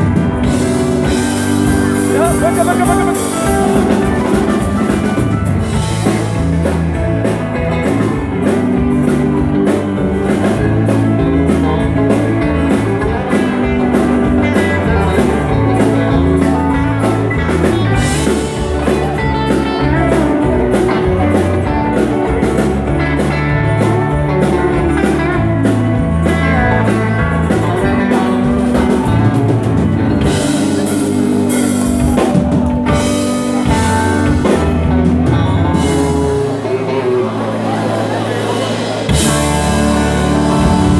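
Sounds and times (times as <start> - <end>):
live band playing dance music: 0.0 - 40.9.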